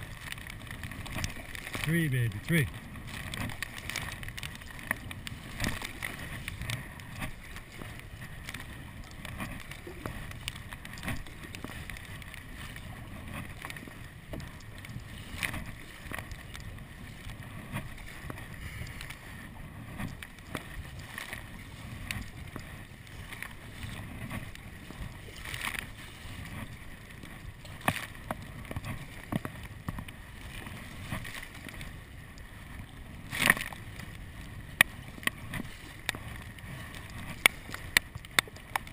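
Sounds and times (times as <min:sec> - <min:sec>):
paddle splashing in water: 0:00.0 - 0:38.9
waves slapping deck: 0:00.0 - 0:38.9.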